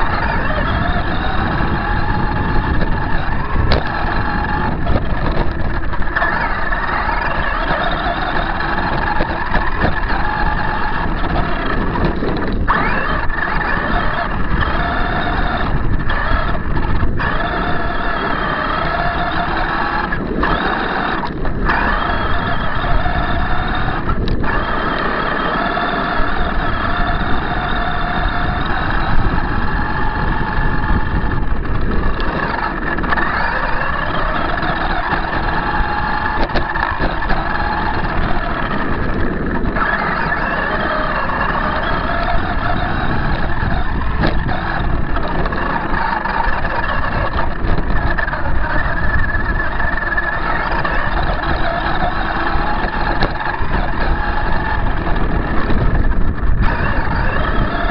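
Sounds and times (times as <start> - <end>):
toy truck motor whining: 0.0 - 57.9
truck rattling across gravel: 0.0 - 57.9.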